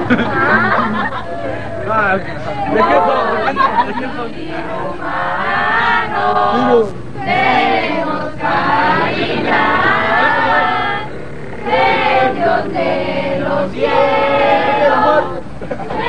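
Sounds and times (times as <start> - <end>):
group of people singing in chorus: 0.0 - 16.0.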